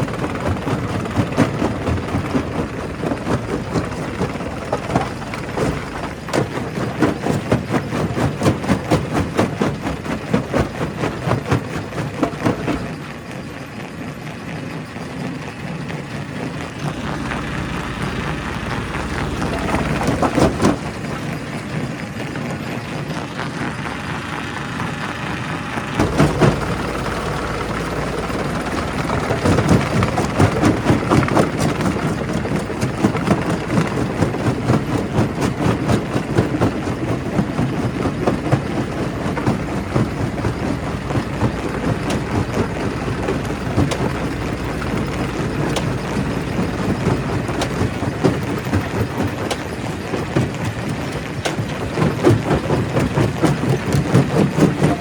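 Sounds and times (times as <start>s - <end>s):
heavy machine rumble: 0.0s - 13.2s, 16.0s - 55.0s.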